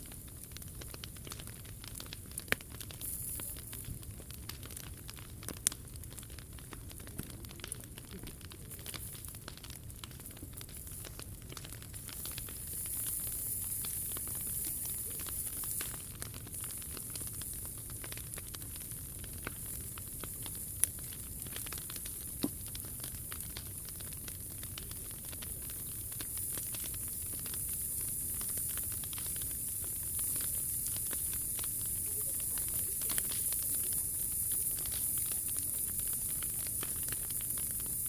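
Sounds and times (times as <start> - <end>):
sharp pops of fire: 0.0 - 38.0
wood fire crackling: 0.0 - 38.0.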